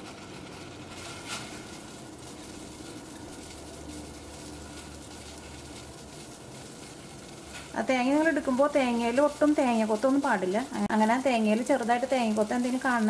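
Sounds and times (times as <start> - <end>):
water boiling in a saucepan: 0.0 - 13.0.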